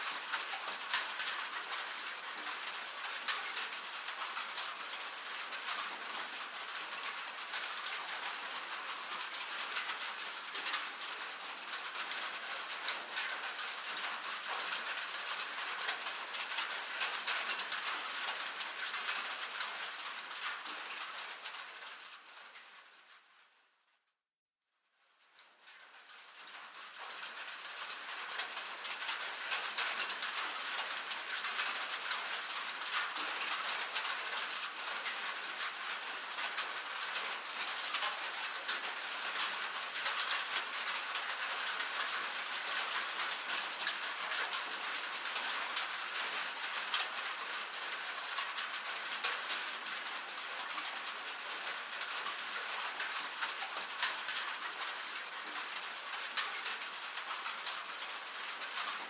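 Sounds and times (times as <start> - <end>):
rain on a metal roof: 0.0 - 24.0, 24.9 - 59.0.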